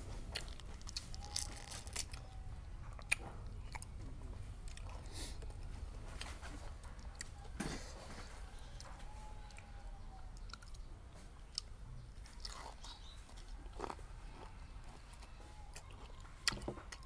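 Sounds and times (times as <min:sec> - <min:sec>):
crunching raw vegetables: 0:00.0 - 0:17.0.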